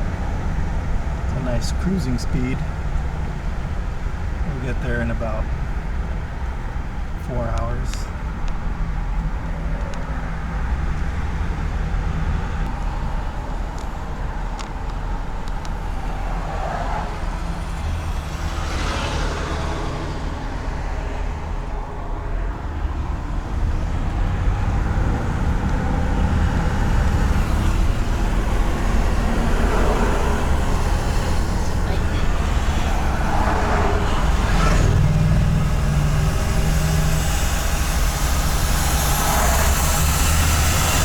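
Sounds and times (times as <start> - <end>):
tyre and road noise: 0.0 - 41.0
van engine drone: 0.0 - 41.0.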